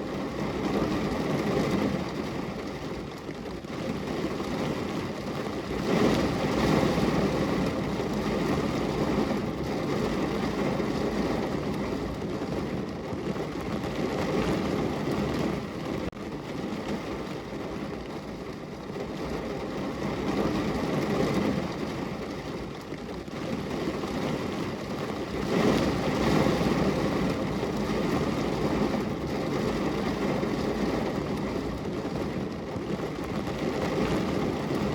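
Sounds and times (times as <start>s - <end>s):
rain drumming on car roof: 0.0s - 34.9s.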